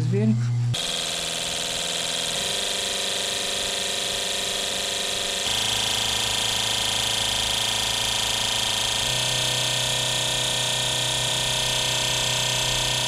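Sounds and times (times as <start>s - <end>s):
fuel injectors buzzing: 0.7s - 13.0s.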